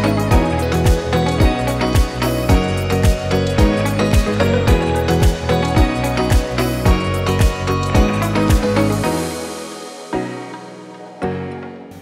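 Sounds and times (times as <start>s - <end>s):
sustained music chords: 0.0s - 12.0s.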